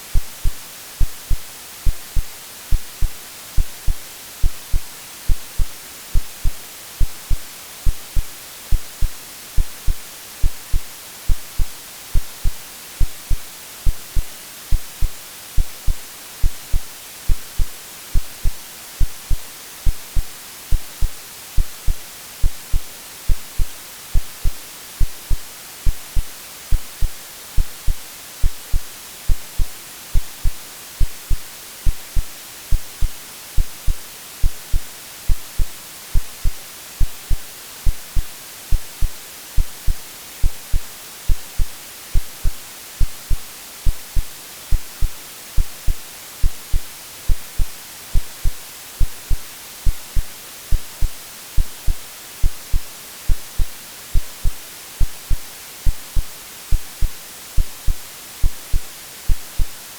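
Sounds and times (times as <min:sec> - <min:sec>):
white noise hiss: 0:00.0 - 0:59.9
heartbeat pulse: 0:00.1 - 0:59.8.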